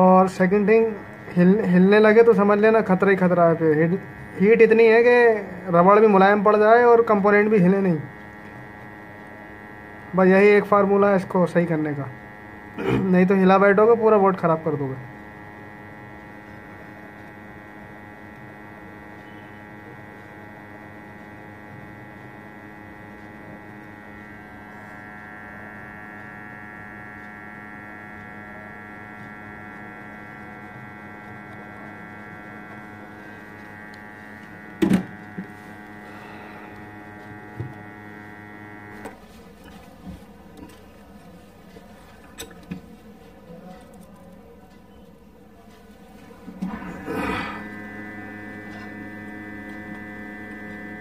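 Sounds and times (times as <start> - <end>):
hot air blower humming: 0.0 - 44.6, 45.3 - 51.0.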